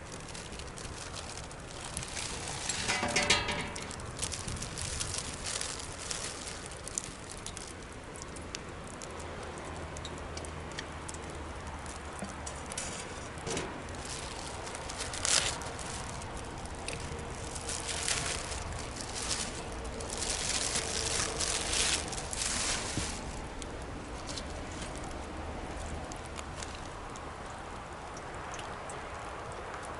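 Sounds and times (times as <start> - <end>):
bonfire crackling and popping: 0.0 - 29.9.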